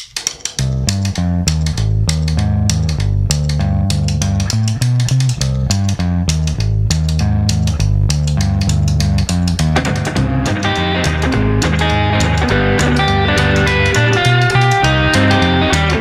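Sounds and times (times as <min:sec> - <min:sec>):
rockabilly band music: 0:00.0 - 0:16.0.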